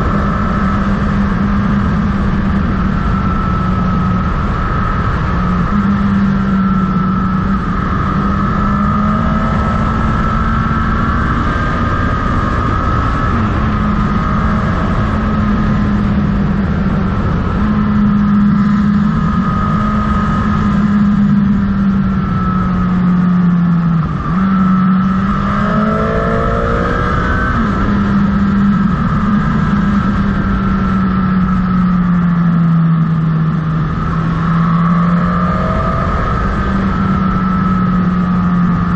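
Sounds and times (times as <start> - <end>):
motorcycle engine cruising: 0.0 - 38.9
rushing wind and road noise: 0.0 - 38.9.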